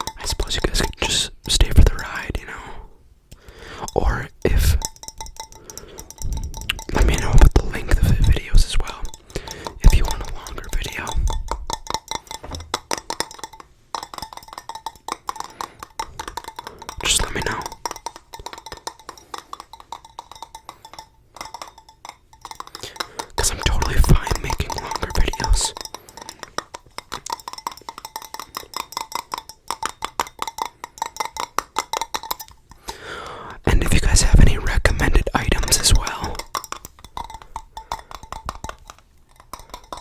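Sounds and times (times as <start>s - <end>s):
fingers tapping on hard object: 0.0s - 2.5s, 3.6s - 40.0s.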